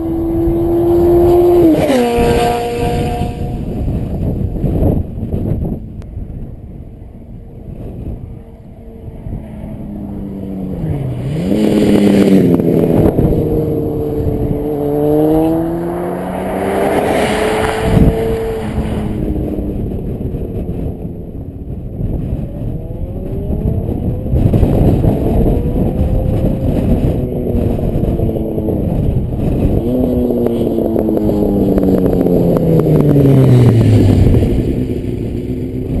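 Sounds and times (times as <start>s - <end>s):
motorcycle engine revving past: 0.0s - 5.7s, 7.7s - 36.0s.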